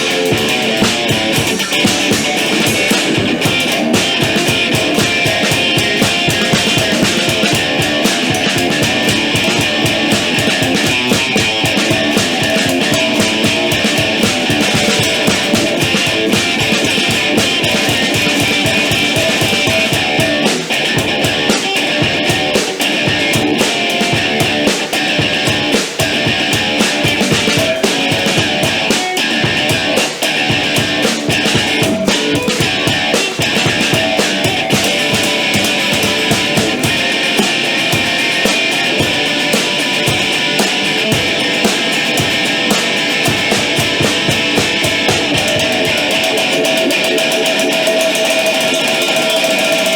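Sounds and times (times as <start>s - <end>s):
drum hits: 0.0s - 49.9s
rock band playing live: 0.0s - 49.9s.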